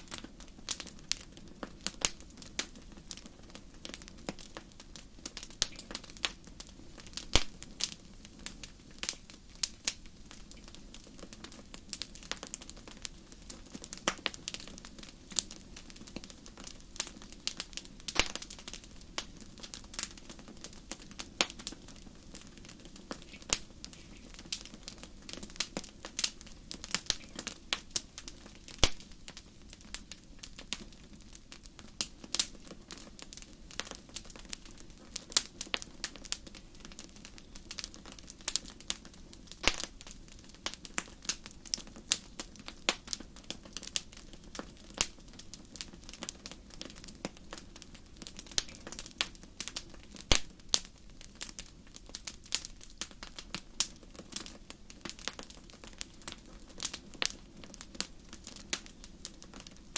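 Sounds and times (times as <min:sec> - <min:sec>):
hiss of burning: 0:00.0 - 0:59.9
wood fire crackling and popping: 0:00.0 - 0:59.9.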